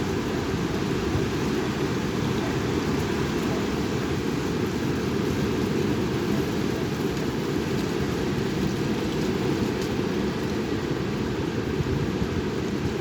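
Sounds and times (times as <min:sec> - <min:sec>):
strong wind blowing over microphone: 0:00.0 - 0:13.0.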